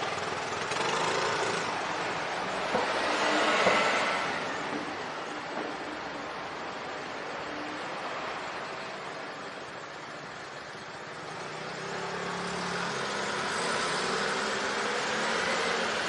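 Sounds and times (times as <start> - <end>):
street traffic noise: 0.0 - 16.0
vehicle engine hum: 0.0 - 16.0.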